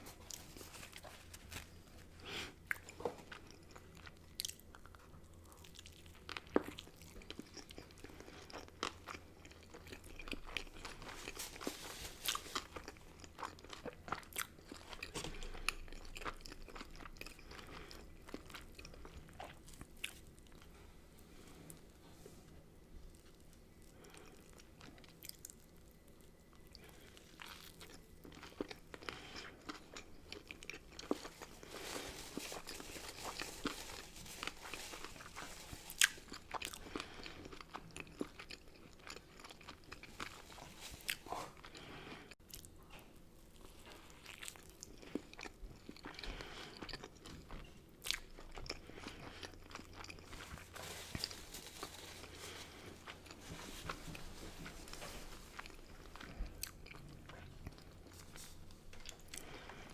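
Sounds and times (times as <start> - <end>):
person chewing crunchy food: 0.0 - 20.8, 23.1 - 59.9.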